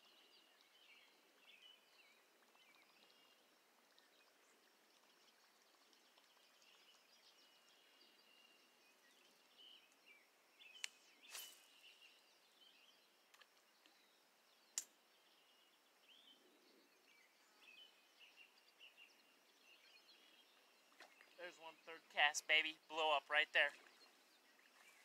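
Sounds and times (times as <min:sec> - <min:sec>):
distant bird calls: 0:00.0 - 0:25.0.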